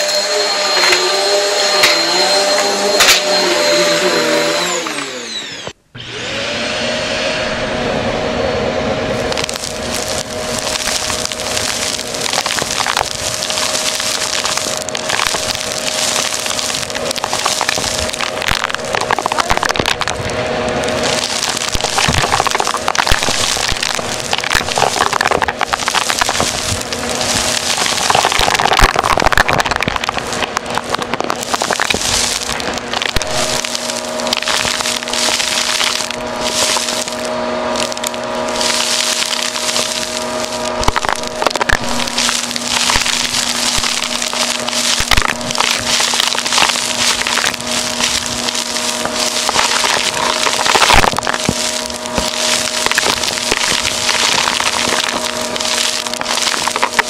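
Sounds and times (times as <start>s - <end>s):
dirt crunching in vacuum: 0.0s - 5.8s, 6.4s - 57.0s
vacuum cleaner motor hum: 0.0s - 57.0s.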